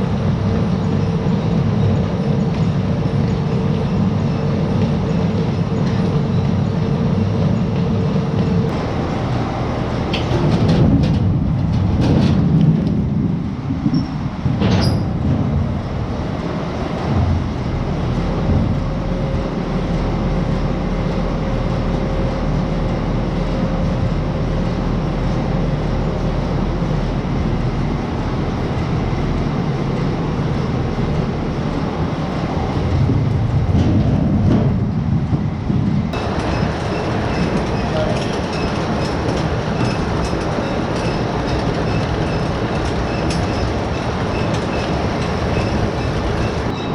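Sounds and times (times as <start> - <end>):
machinery rumbling clatter: 0.0 - 46.9
steady machine hum: 0.0 - 46.9.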